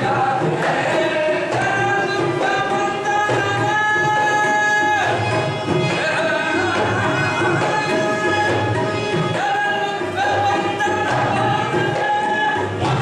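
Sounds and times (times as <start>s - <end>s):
devotional singing: 0.0s - 13.0s
hand drum beat: 0.0s - 13.0s.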